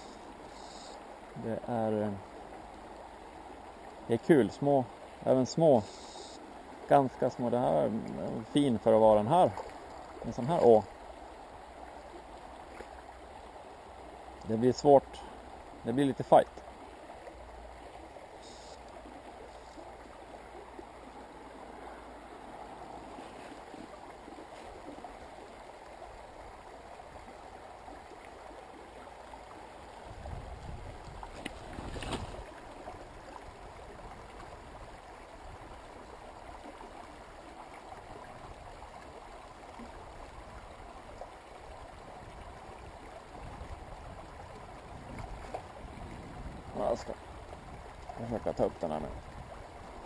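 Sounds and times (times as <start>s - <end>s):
stream water flowing: 0.0s - 50.0s.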